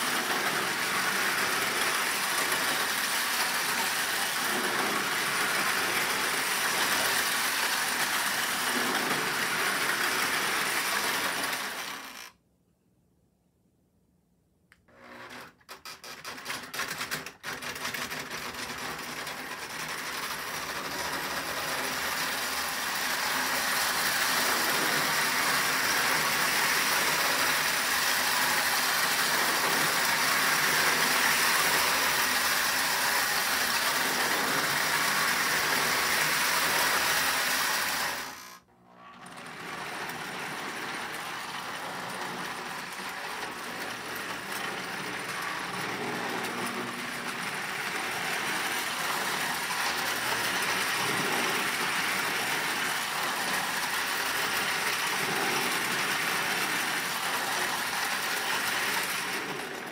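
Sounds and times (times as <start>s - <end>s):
toy diesel train running: 0.0s - 12.4s, 14.9s - 59.9s
toy train whirring rattle: 0.0s - 12.4s, 14.9s - 59.9s.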